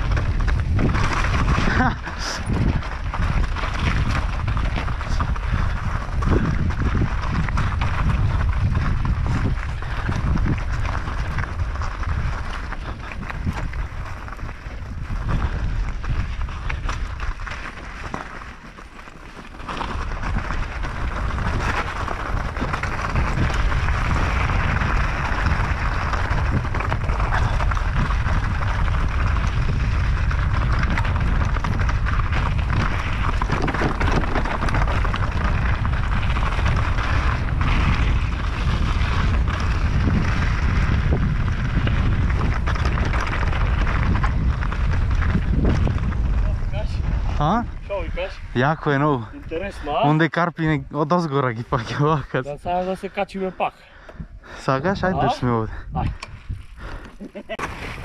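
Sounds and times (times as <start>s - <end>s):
wind buffeting microphone: 0.0s - 18.1s, 19.7s - 58.0s
bike tyres crunching on gravel: 0.0s - 58.0s.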